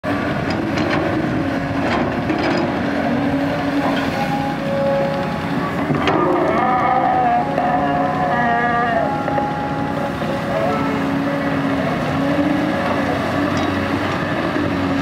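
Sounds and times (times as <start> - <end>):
excavator diesel engine: 0.0 - 15.0
hydraulic whine: 0.1 - 15.0.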